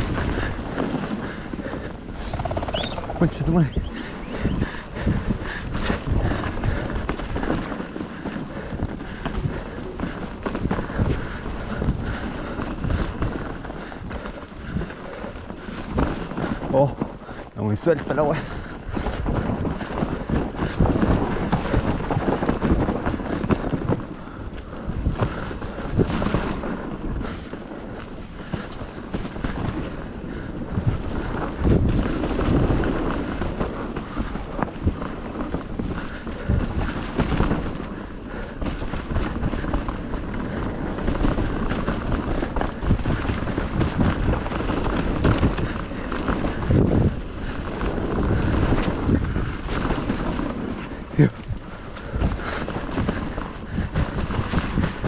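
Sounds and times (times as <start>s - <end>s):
bike knocking and rattling: 0.0s - 55.0s
bike tyres rolling over dirt: 0.0s - 55.0s
wind buffeting microphone: 0.0s - 55.0s.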